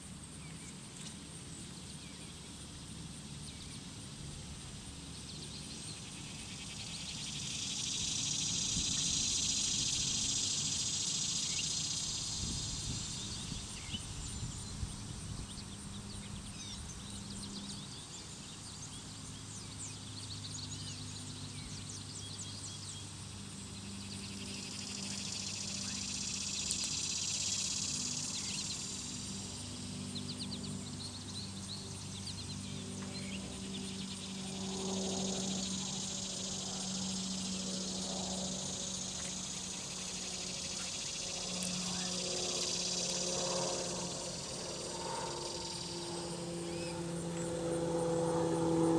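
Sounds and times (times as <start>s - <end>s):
faint insect chirps: 0.0s - 48.9s
insects buzzing: 0.0s - 48.9s.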